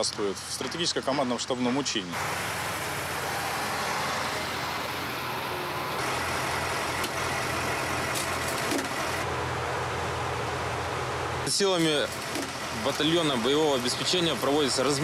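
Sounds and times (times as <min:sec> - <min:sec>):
truck diesel engine running: 0:02.2 - 0:15.0.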